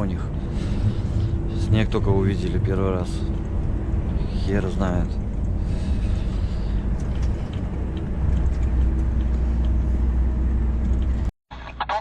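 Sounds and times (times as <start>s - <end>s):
truck engine drone: 0.0s - 11.6s
road and tyre noise: 0.0s - 11.9s.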